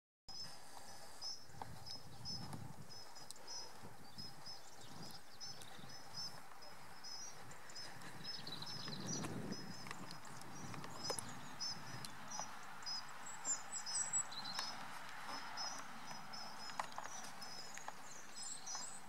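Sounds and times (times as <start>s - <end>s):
songbird chirping: 0.3s - 19.0s.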